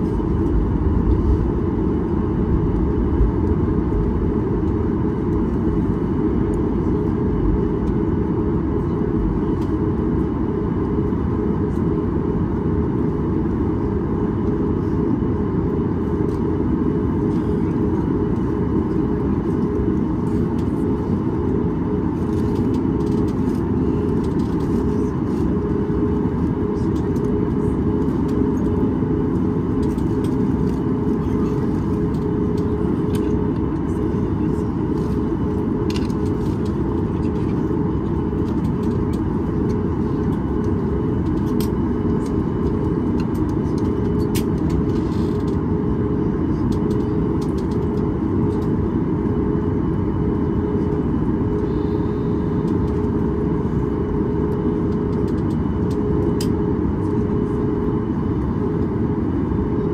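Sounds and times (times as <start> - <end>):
airplane cabin engine rumble: 0.0 - 59.9
steady cabin hum: 0.0 - 59.9.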